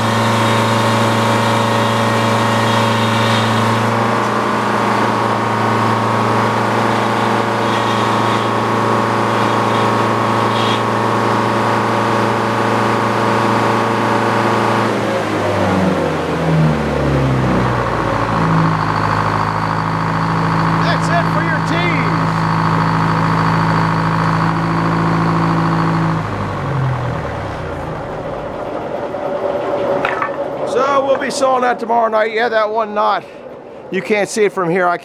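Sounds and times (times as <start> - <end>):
sawmill engine running: 0.0 - 34.8.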